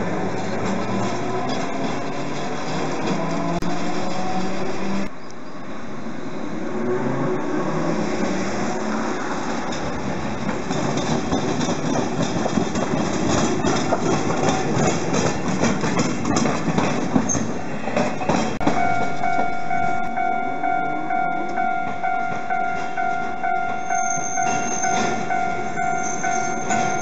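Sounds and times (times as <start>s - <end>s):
tram wheels clacking over rails: 0.0s - 4.9s, 8.8s - 20.2s, 21.3s - 27.0s.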